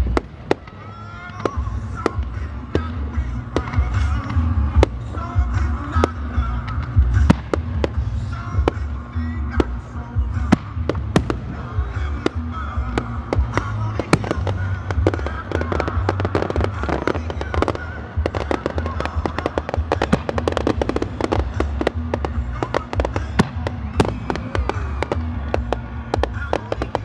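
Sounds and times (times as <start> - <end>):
fireworks bangs and pops: 0.0 - 27.0
fireworks crackling: 0.0 - 27.0
steady low rumble: 0.0 - 27.0.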